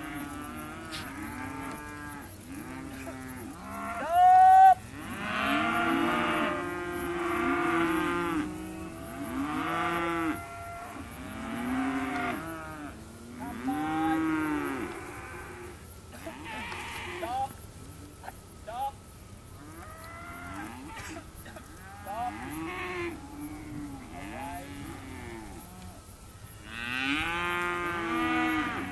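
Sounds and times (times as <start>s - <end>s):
calves bawling: 0.0s - 28.9s.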